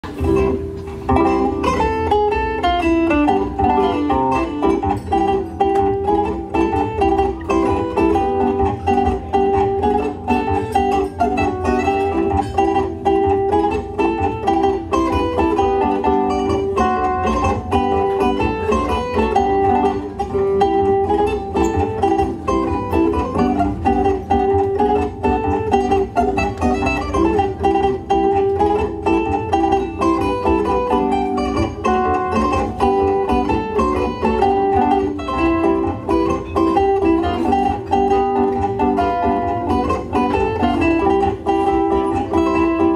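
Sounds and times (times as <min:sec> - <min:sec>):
zither plucked strings: 0:00.0 - 0:42.9.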